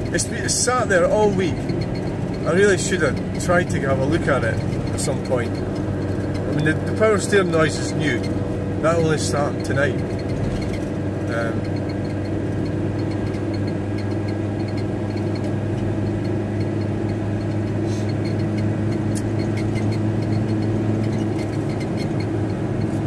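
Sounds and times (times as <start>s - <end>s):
van engine and road drone: 0.0s - 23.0s.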